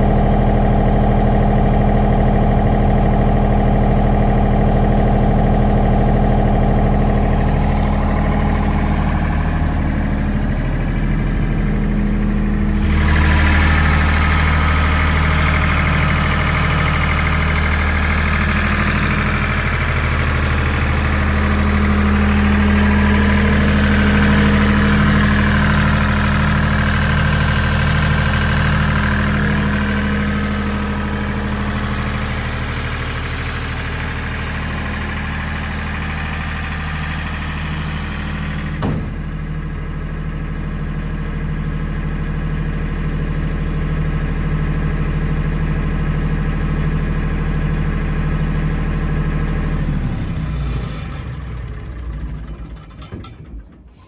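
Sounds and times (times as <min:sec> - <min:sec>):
generator diesel engine running: 0:00.0 - 0:54.0.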